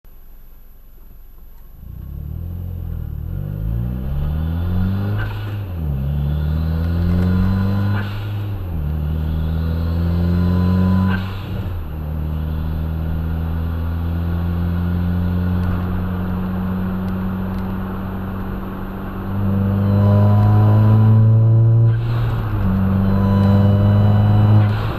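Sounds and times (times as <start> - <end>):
turbocharged car engine accelerating: 1.8 - 24.9.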